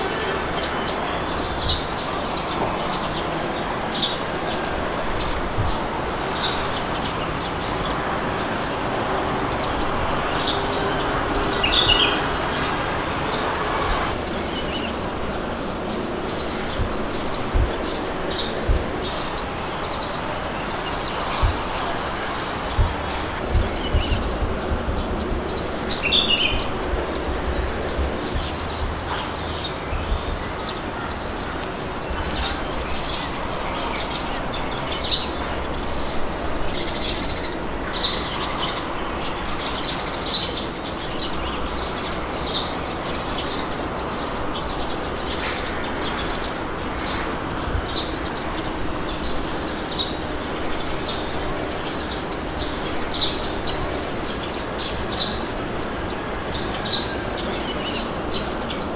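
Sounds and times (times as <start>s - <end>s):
birds chirping: 0.0s - 58.9s
wind rumbling: 0.0s - 58.9s.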